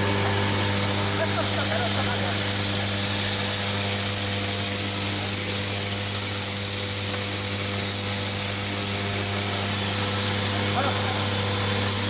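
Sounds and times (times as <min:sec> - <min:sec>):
machine electrical hum: 0:00.0 - 0:12.0.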